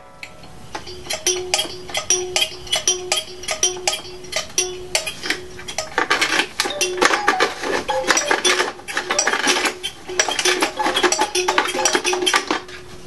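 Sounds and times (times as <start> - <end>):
metal tin clinks with music-box notes: 0.2 - 12.8.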